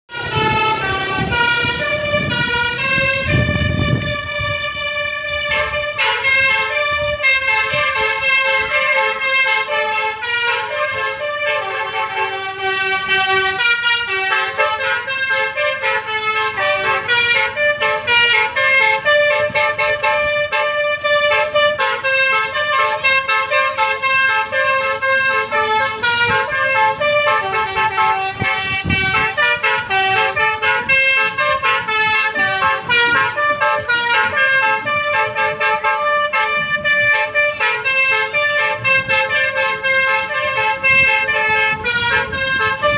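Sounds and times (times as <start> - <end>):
musical bus horn playing tune: 0.1 - 42.9.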